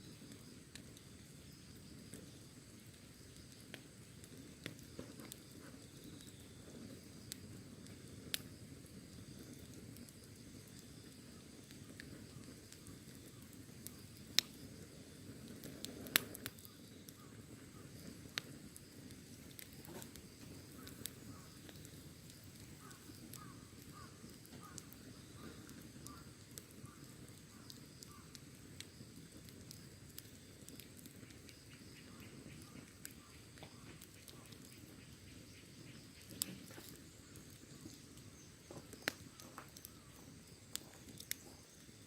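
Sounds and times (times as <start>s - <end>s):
burning wood popping: 0.0s - 42.0s
flames rushing: 0.0s - 42.0s.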